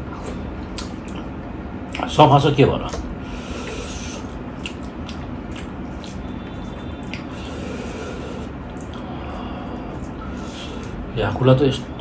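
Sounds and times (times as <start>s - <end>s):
wet squishy chewing: 0.0s - 2.1s, 2.9s - 11.0s.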